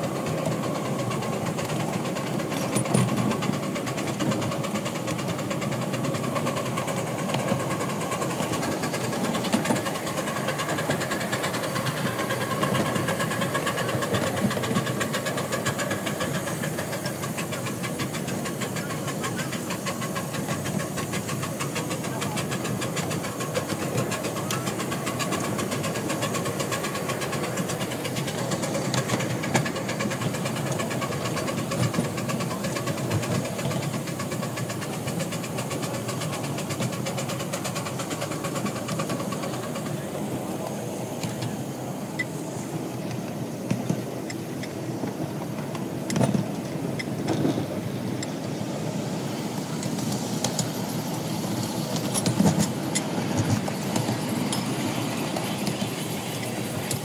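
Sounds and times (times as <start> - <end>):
steam hiss: 0.0 - 57.0
steam locomotive exhaust beat: 0.0 - 57.0
wheels running on rails: 0.0 - 57.0.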